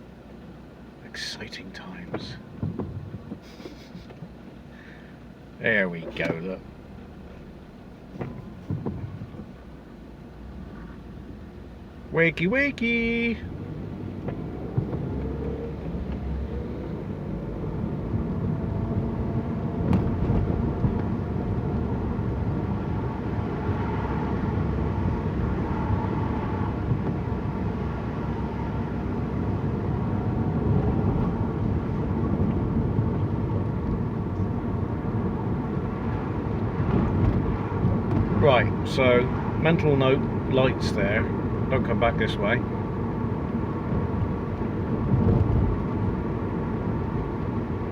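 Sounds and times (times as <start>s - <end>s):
car engine and tyre noise: 0.0s - 47.9s.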